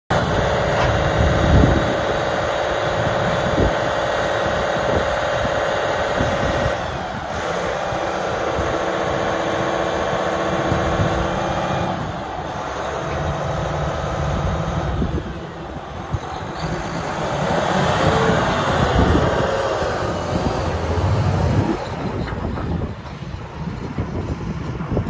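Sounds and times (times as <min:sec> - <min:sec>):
diesel engine under load: 0:00.1 - 0:25.0.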